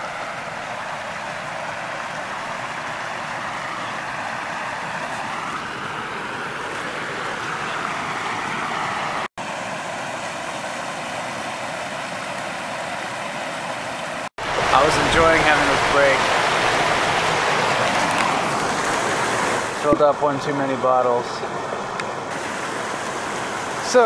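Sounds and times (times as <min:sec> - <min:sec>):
creek water rushing over rock: 0:00.0 - 0:24.0.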